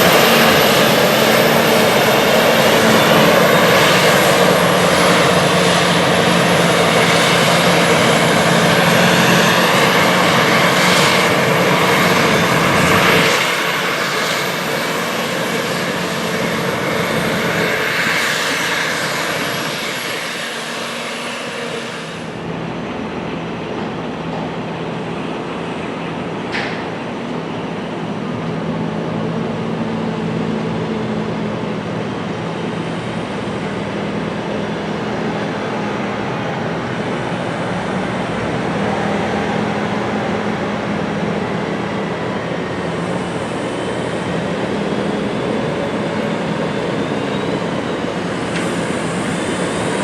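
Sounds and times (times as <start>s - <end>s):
heavy farm machinery engine: 0.0s - 50.0s.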